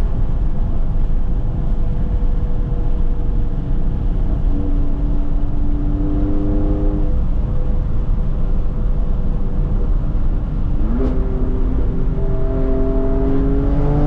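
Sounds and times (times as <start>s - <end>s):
car engine and exhaust cruising: 0.0s - 14.0s
road noise: 0.0s - 14.0s
steady droning tone: 0.0s - 14.0s.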